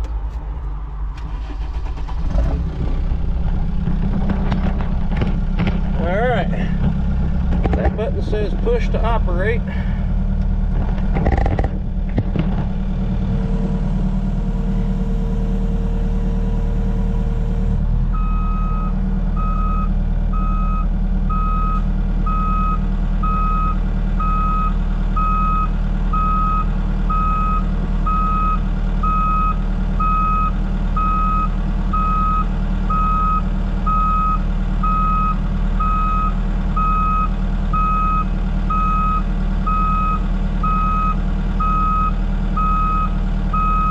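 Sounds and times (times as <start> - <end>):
heavy machine engine running: 0.0 - 43.9.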